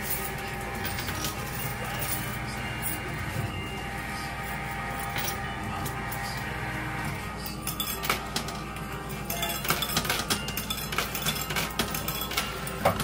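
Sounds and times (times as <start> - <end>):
background music: 0.0 - 13.0
coins clinking: 0.0 - 13.0.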